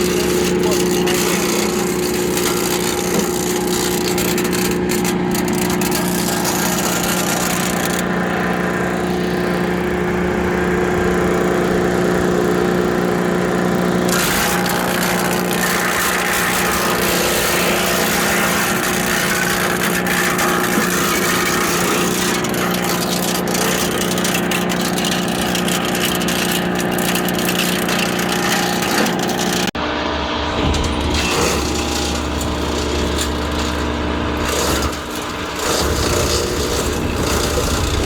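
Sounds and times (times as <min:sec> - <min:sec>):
tractor engine under load: 0:00.0 - 0:38.0
wood chipper high-pitched noise: 0:00.0 - 0:38.0.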